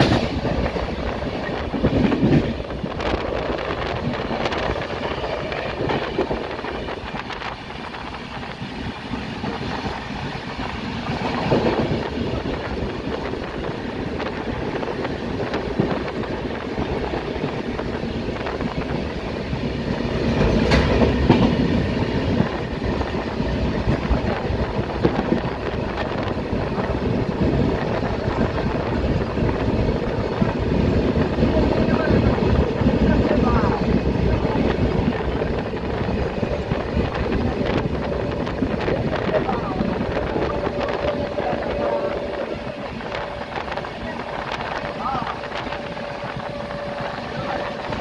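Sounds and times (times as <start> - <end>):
clickety-clack over track joints: 0.0 - 48.0
train wheels rushing on rail: 0.0 - 48.0
wind rushing: 0.0 - 48.0.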